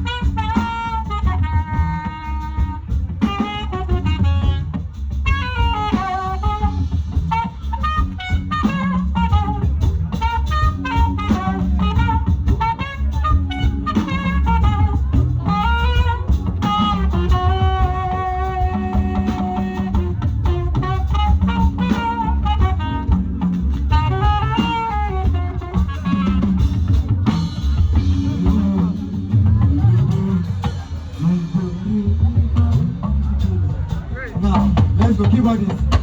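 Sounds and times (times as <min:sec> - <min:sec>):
bass groove: 0:00.0 - 0:36.0
drum kit: 0:00.0 - 0:36.0.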